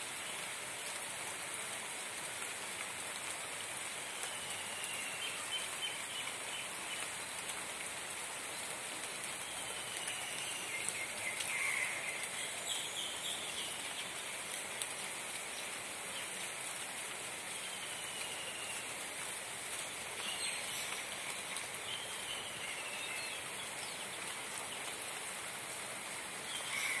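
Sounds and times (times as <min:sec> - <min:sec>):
rain pattering on leaves: 0:00.0 - 0:27.0.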